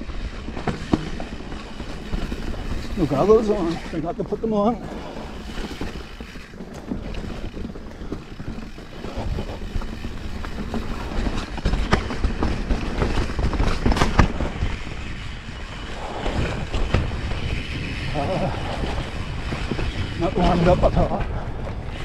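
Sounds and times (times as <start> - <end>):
bike knocking and rattling: 0.0 - 22.0
tyres rumbling over dirt: 0.0 - 22.0
wind buffeting microphone: 0.0 - 22.0.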